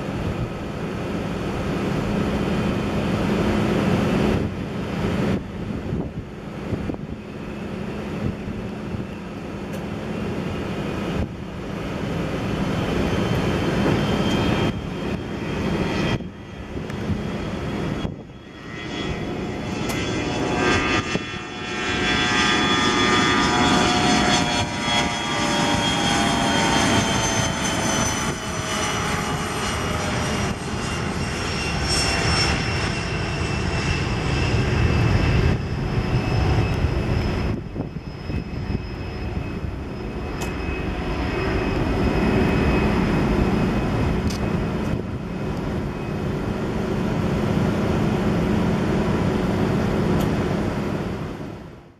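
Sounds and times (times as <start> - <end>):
jet engines at takeoff thrust: 0.0 - 51.9.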